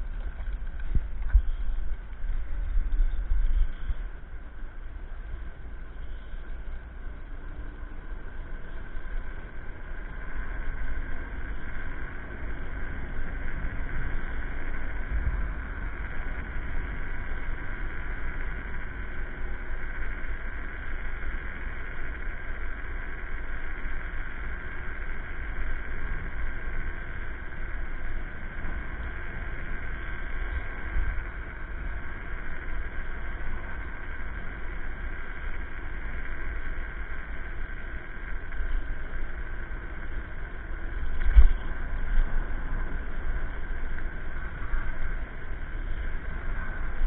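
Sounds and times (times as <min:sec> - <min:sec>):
wind rumble on microphone: 0:00.0 - 0:47.0.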